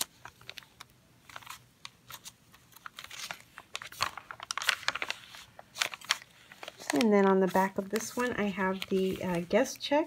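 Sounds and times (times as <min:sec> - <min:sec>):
paper crinkling and rustling: 0:00.0 - 0:10.0.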